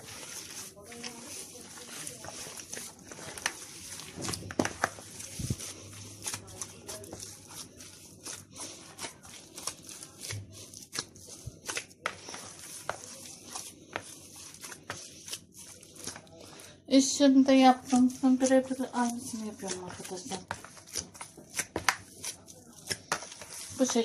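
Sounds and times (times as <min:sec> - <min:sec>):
hand kneading meat mixture: 0:00.0 - 0:24.0.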